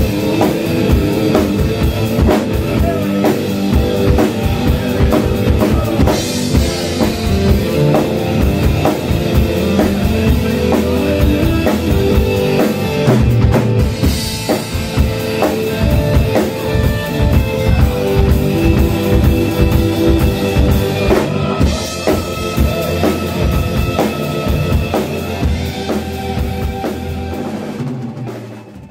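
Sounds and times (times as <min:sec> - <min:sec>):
drum kit beat: 0:00.0 - 0:28.9
electric guitar: 0:00.0 - 0:28.9
rock band playing: 0:00.0 - 0:28.9.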